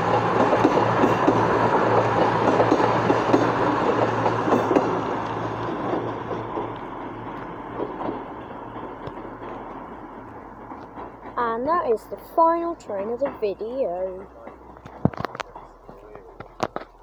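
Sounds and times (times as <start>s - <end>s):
train engine hum: 0.0s - 17.0s
train wheels clattering over rails: 0.0s - 17.0s.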